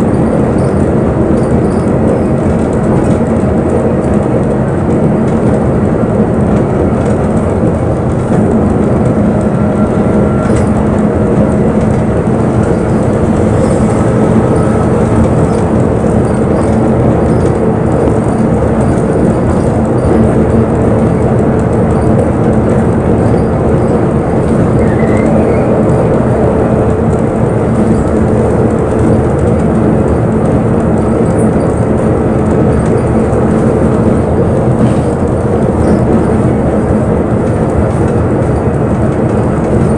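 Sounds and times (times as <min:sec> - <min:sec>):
bus engine drone: 0:00.0 - 0:39.9
road and body rumble: 0:00.0 - 0:39.9.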